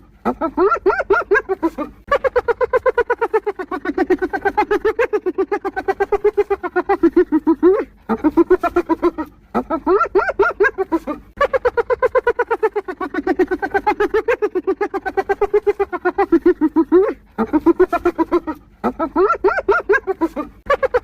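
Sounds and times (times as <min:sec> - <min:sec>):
hyena giggling: 0:00.0 - 0:21.0.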